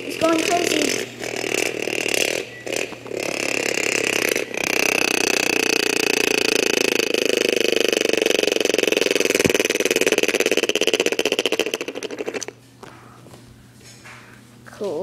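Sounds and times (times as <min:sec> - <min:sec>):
spinning top whirring on wood: 0:00.0 - 0:12.6.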